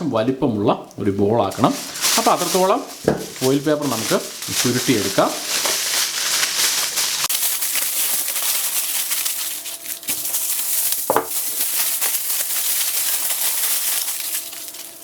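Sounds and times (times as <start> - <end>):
aluminium foil crumpling: 1.5 - 15.0.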